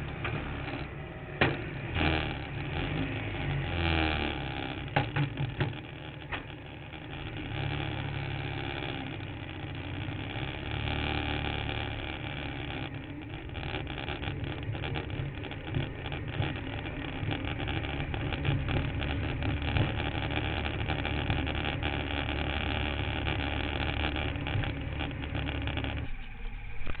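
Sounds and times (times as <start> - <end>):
chassis rattling and knocking: 0.0 - 27.0
kart engine running: 0.0 - 27.0.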